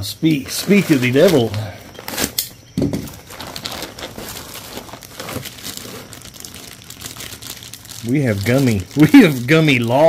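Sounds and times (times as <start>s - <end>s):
packaging crinkling: 0.5s - 10.0s.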